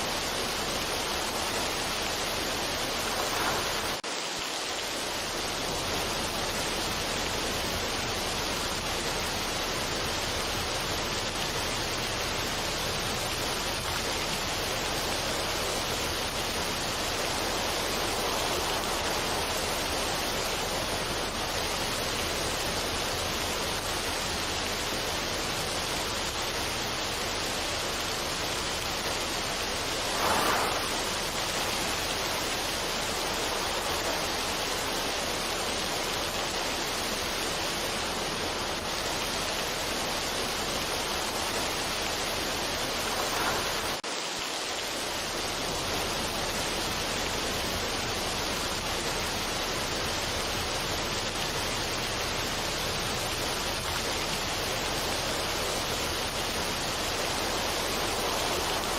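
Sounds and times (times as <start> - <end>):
steady rushing noise: 0.0 - 58.9.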